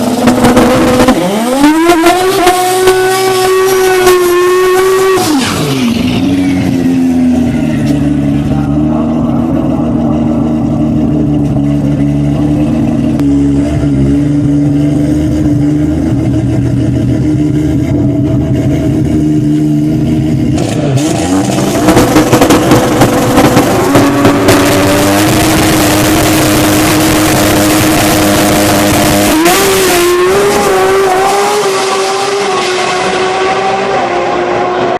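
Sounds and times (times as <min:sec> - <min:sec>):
car engine at high revs: 0:00.0 - 0:34.9.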